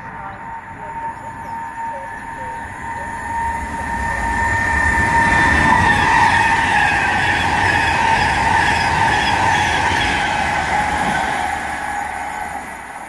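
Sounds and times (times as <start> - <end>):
high train whine: 0.0 - 13.0
train passing at speed: 0.0 - 13.0.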